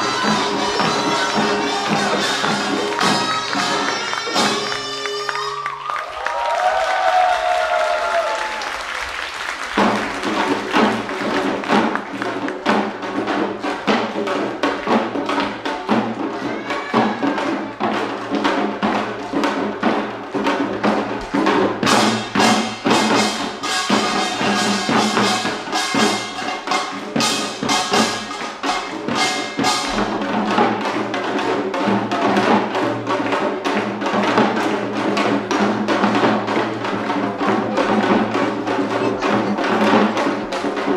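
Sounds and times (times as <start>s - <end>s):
barrel drums beating fast rhythm: 0.0s - 5.5s, 7.9s - 40.9s.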